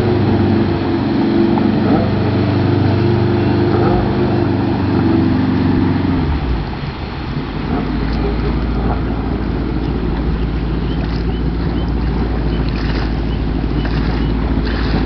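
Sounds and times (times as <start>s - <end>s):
boat engine running: 0.0s - 15.0s
water rushing: 0.0s - 15.0s
wind buffeting microphone: 0.0s - 15.0s.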